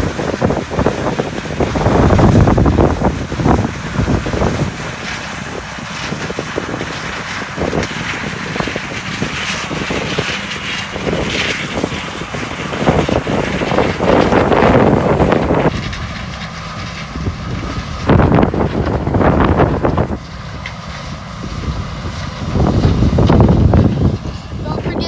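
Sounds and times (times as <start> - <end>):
harvest machinery running: 0.0 - 25.0
wind buffeting microphone: 0.0 - 25.0.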